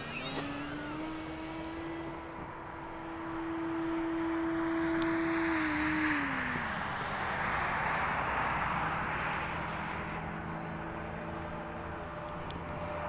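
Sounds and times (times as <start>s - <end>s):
model airplane propeller drone: 0.0s - 13.0s.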